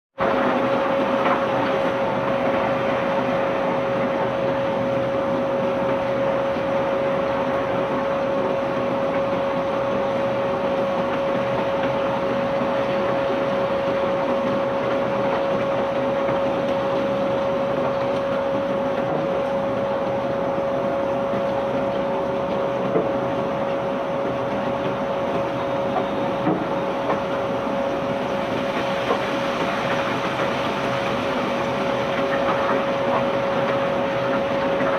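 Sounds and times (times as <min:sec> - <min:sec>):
heavy machinery rumble and whine: 0:00.2 - 0:34.9.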